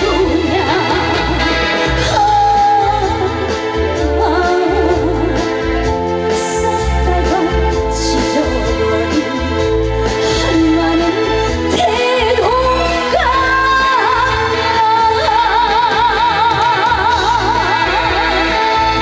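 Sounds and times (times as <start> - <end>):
band backing: 0.0 - 19.0
woman singing with vibrato: 0.0 - 19.0.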